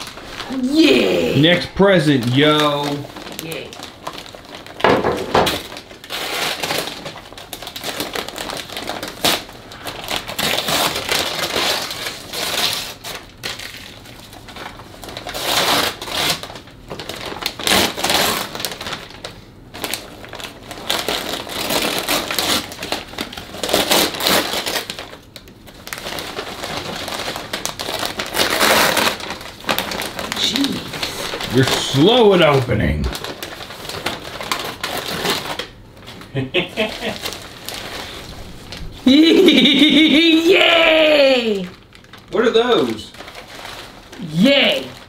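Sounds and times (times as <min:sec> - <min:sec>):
wrapping paper tearing and rustling: 0:00.0 - 0:45.0.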